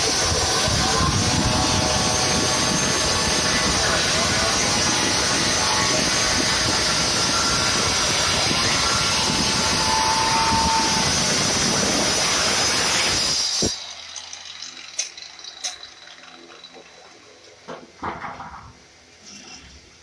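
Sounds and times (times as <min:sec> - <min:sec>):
electric tile cutter grinding: 0:00.0 - 0:17.4.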